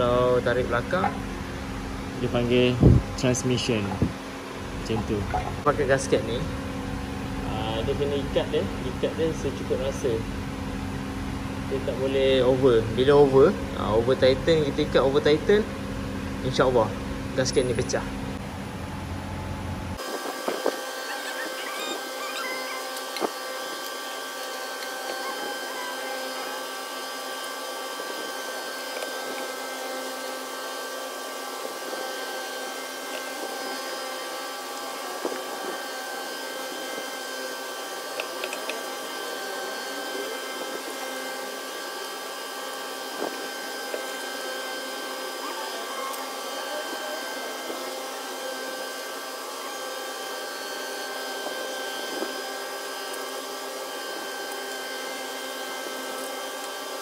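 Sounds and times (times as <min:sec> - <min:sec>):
mechanical hum with whining tones: 0:00.0 - 0:57.0.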